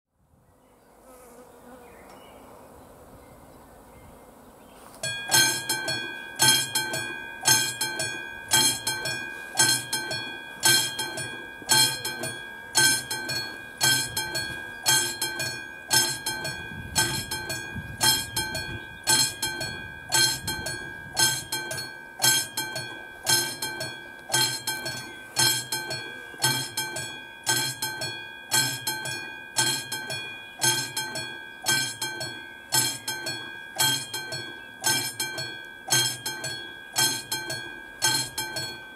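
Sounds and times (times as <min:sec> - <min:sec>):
level crossing bell ringing: 0:05.0 - 0:38.9.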